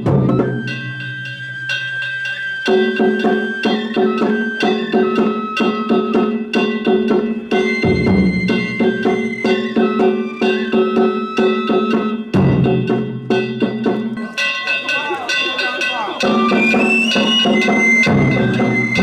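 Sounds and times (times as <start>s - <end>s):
drums and gongs quick beat: 0.0s - 19.0s.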